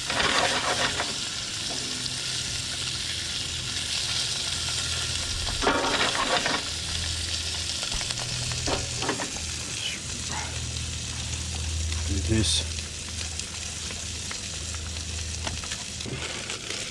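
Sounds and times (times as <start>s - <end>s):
fish sizzling in a frying pan: 0.0s - 16.9s.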